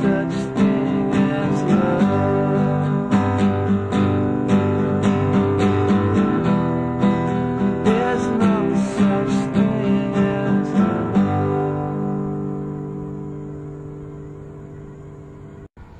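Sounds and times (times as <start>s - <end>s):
acoustic guitar strumming: 0.0s - 15.7s.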